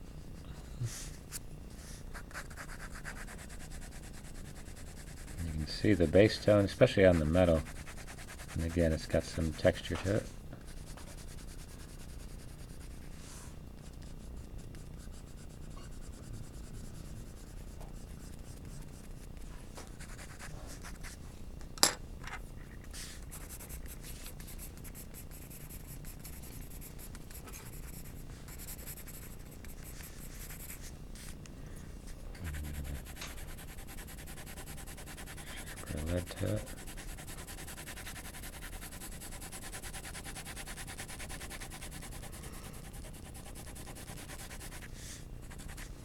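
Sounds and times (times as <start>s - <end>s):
pencil scratching on paper: 2.1s - 19.4s, 20.0s - 21.2s, 22.9s - 31.3s, 32.4s - 45.9s.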